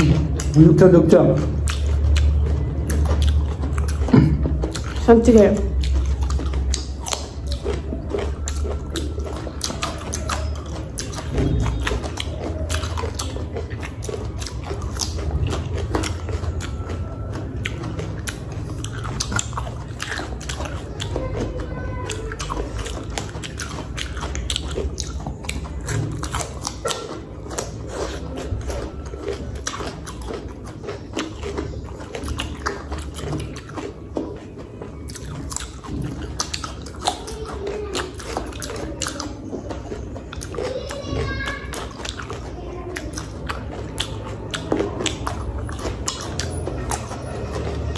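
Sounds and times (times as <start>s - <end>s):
cucumber crunching: 0.0s - 47.9s.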